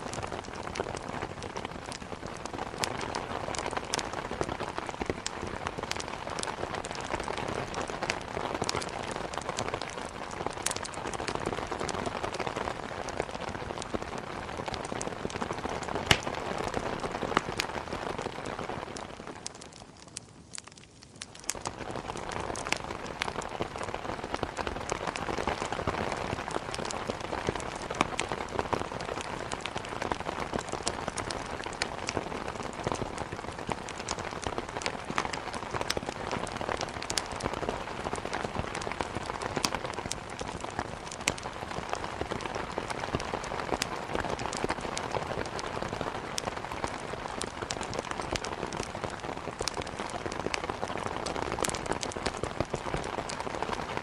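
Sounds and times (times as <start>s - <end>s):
heavy rain falling: 0.0s - 20.0s, 21.5s - 54.0s.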